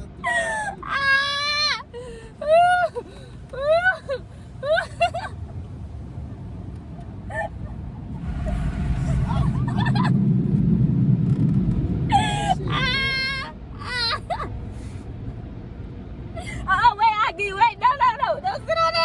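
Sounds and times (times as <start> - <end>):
car wash rumble: 2.1 - 19.0.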